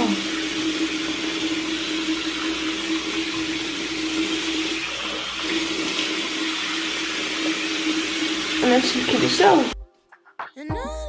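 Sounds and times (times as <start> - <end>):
tap water running into sink: 0.0 - 9.8.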